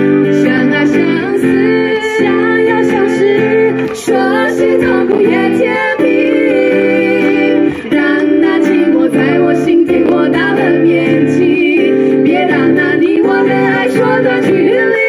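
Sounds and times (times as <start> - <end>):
acoustic guitar: 0.0 - 15.0
women singing: 0.0 - 15.0.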